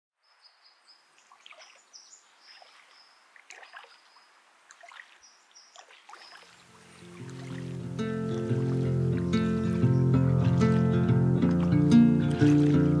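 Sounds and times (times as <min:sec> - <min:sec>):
light water splashes: 0:01.0 - 0:13.0
water trickling: 0:01.1 - 0:13.0.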